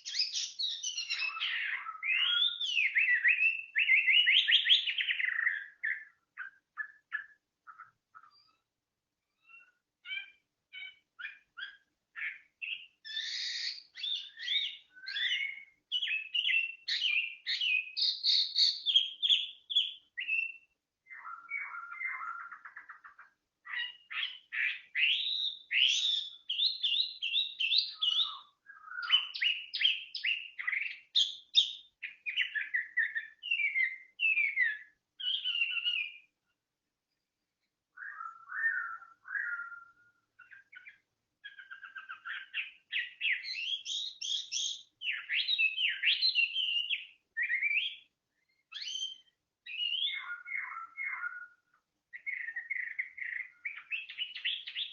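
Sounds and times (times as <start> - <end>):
songbird singing: 0.0 - 54.9.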